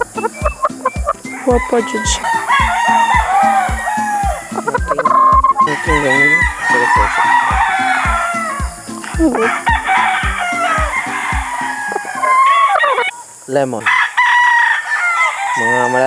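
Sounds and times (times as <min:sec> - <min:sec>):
background music with steady beat: 0:00.0 - 0:13.1
roosters crowing: 0:00.0 - 0:16.0.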